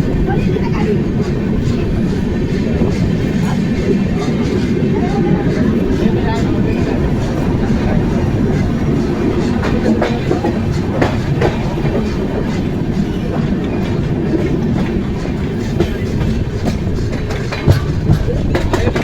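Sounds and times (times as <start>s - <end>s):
passenger train rumbling: 0.0s - 19.0s
wheels clacking over rail joints: 0.0s - 19.0s.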